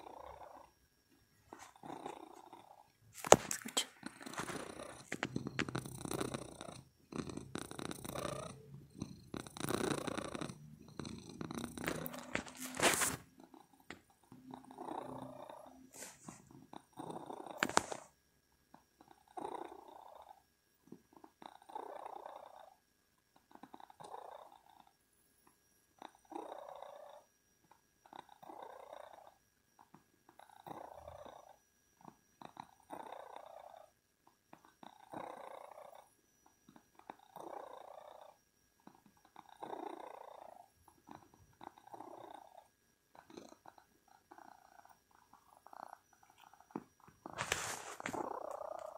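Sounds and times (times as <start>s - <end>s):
cat purring: 0.0s - 48.9s.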